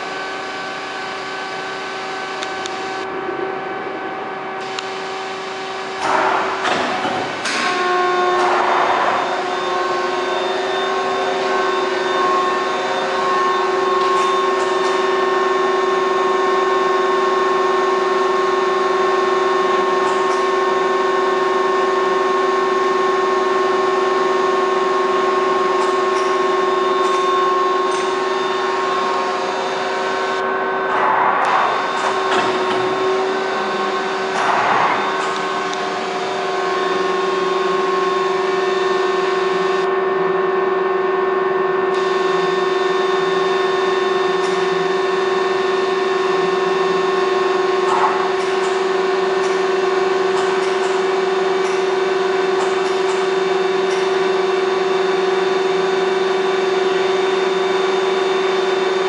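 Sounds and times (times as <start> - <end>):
lathe machine whine: 0.0 - 59.0.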